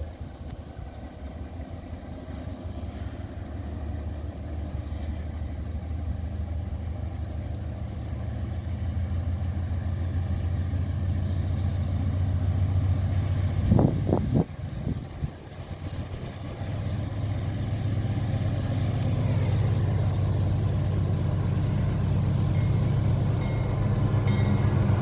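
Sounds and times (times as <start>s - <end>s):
diesel locomotive engine rumble: 0.0s - 25.0s.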